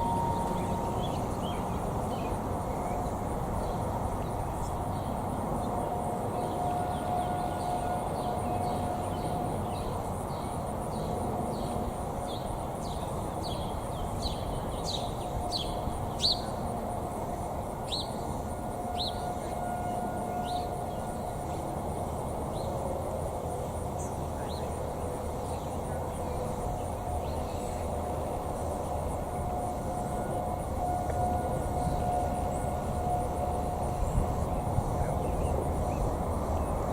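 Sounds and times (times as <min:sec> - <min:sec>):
distant tornado sirens: 0:00.0 - 0:36.9.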